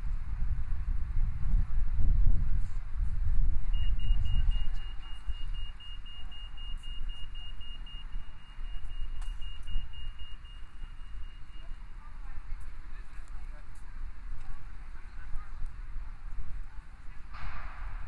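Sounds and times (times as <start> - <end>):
street traffic rumble: 0.0 - 18.0
wind: 0.0 - 18.0.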